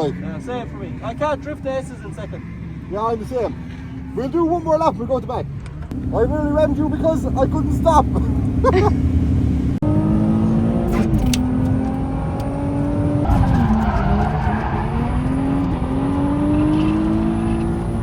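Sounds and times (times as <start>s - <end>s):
car engine running hard: 0.0s - 18.0s
tyres skidding: 0.0s - 18.0s.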